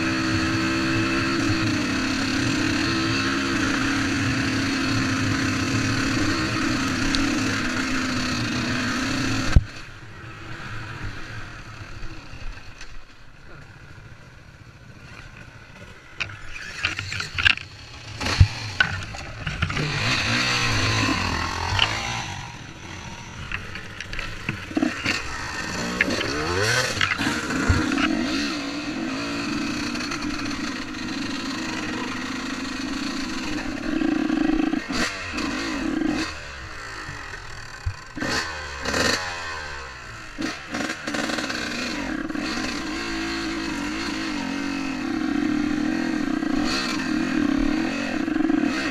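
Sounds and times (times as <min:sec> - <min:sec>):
motocross bike engine revving: 0:00.0 - 0:09.8, 0:16.4 - 0:48.9.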